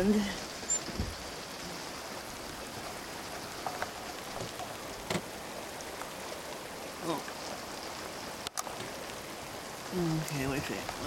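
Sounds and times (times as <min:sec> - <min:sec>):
water hissing: 0:00.0 - 0:11.0.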